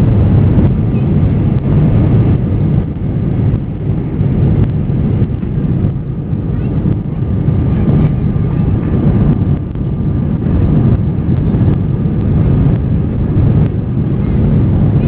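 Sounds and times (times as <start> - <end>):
faint steady whine: 0.0 - 15.0
jet engine rumble and rushing air: 0.0 - 15.0.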